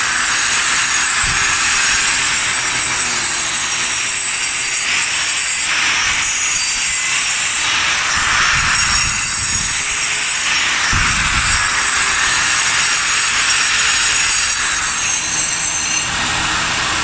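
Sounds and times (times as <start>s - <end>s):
angle grinder grinding concrete: 0.0s - 17.0s.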